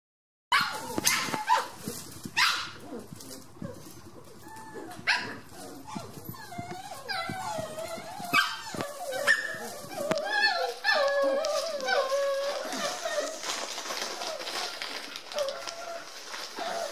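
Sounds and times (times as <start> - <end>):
puppies whining: 0.5 - 16.9
puppies yapping and barking: 0.5 - 16.9.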